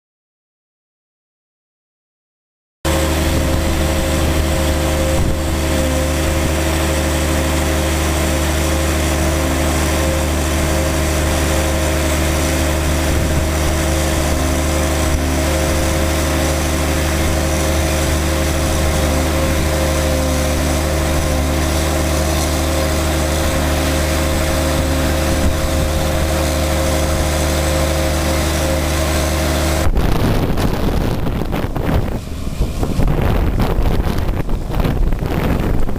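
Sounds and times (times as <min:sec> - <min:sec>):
wind buffeting microphone: 0:02.9 - 0:07.7, 0:08.9 - 0:35.9
diesel engine humming: 0:02.9 - 0:35.9.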